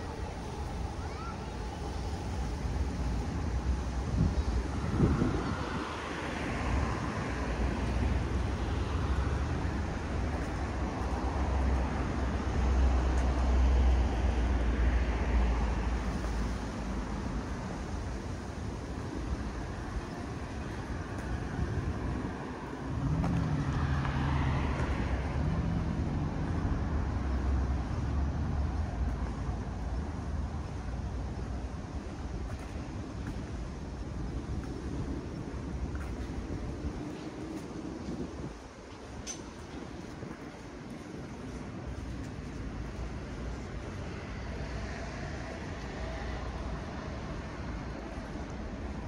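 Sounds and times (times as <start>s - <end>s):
road traffic noise: 0.0s - 49.0s
vehicle engine hum: 0.0s - 49.0s.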